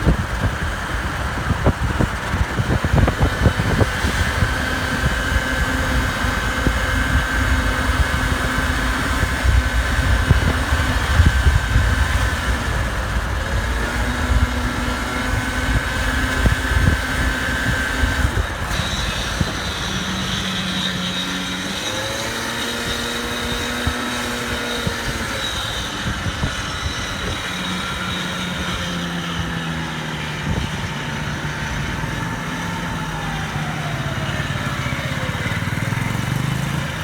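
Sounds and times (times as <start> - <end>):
steady high whine: 0.0 - 35.8
moped scooter running: 0.0 - 37.0
wind buffeting microphone: 0.0 - 37.0.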